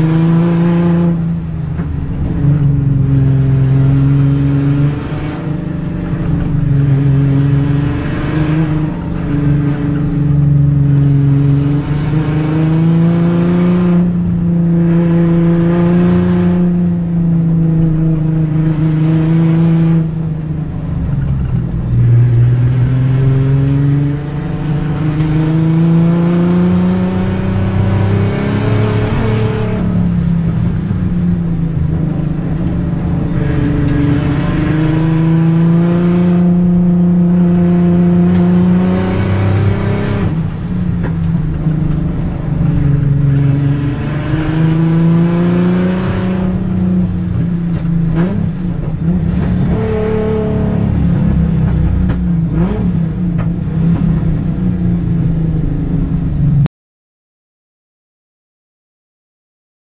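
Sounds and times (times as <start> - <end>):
race car engine accelerating: 0.0 - 56.7.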